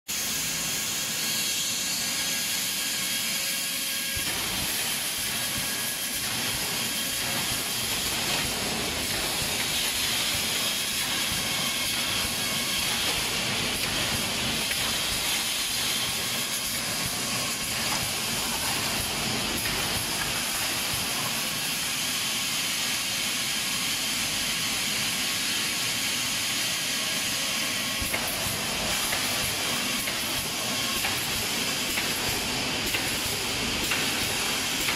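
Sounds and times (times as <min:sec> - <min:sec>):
factory machinery hiss and rumble: 0:00.1 - 0:34.9.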